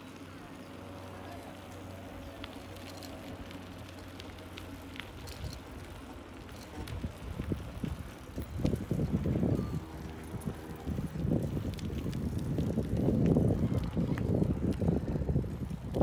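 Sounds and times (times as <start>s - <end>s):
wind buffeting microphone: 2.2s - 16.0s.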